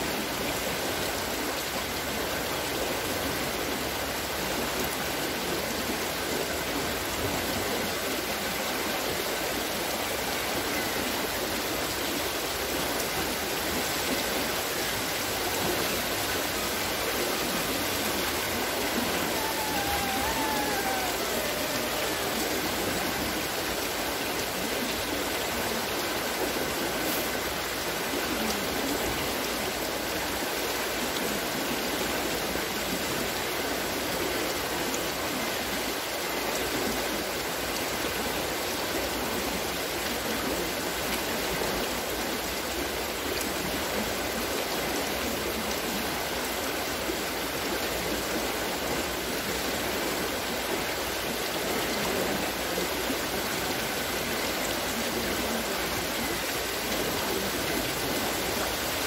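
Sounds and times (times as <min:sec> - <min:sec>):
water rushing and splashing: 0:00.0 - 0:59.0.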